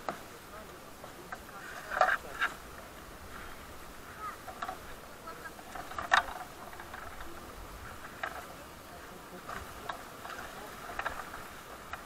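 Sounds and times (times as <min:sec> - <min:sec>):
knocks and clatters in raft: 0:00.0 - 0:12.0.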